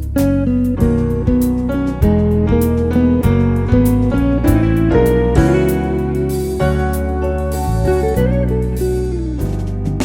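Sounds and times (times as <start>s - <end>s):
guitar music over bass line: 0.0s - 10.0s.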